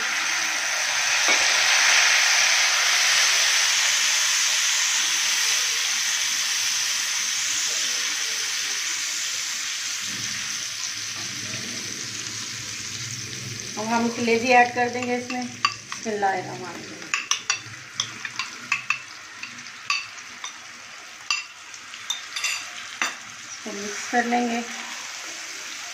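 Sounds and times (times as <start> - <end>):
paste sizzling in hot oil: 0.0 - 25.9.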